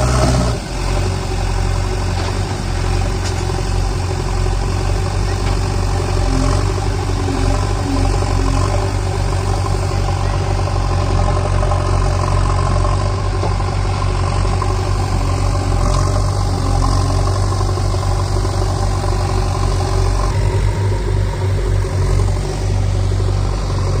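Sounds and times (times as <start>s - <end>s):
diesel engine running at low revs: 0.0s - 24.0s.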